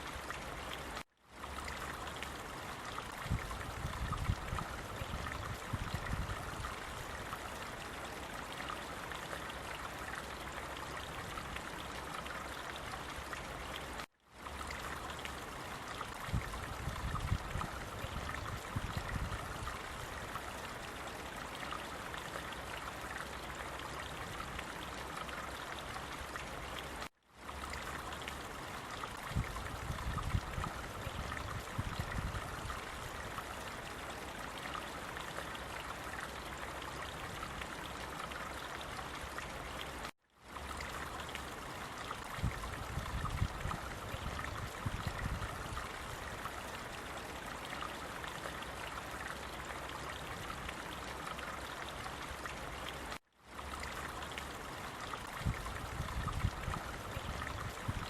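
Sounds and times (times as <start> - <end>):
water flowing in a stream: 0.0 - 58.0.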